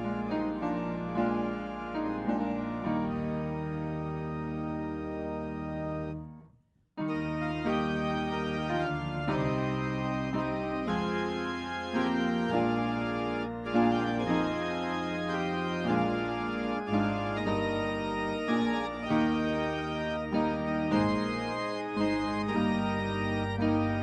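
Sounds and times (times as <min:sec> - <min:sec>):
organ playing sustained chords: 0:00.0 - 0:06.3, 0:07.0 - 0:24.0.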